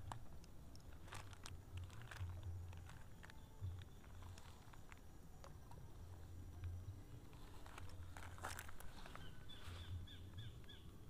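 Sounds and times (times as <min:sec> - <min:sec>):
faint rustling: 0:00.0 - 0:10.8
bird chirping: 0:01.8 - 0:11.0.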